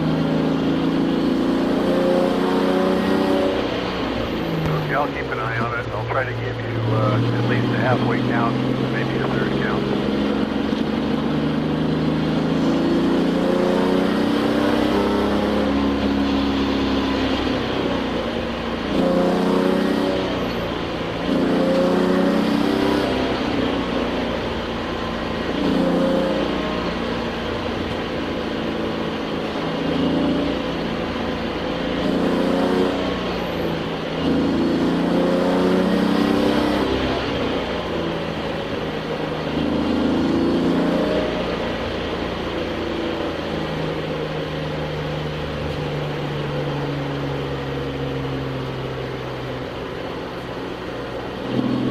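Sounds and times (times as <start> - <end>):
race car engine accelerating: 0.0 - 51.9.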